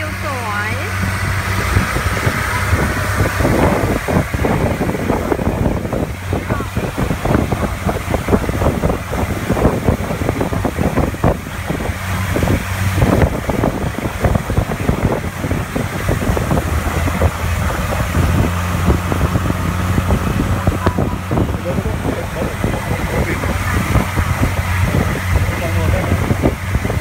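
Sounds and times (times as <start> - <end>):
boat engine humming: 0.0 - 27.0
water rushing along hull: 0.0 - 27.0.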